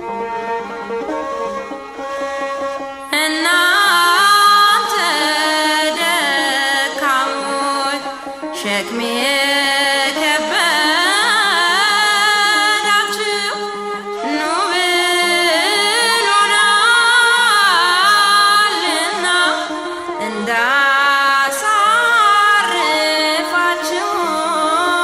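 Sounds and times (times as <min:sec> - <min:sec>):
woman singing a hymn: 0:03.1 - 0:13.6, 0:14.3 - 0:25.0.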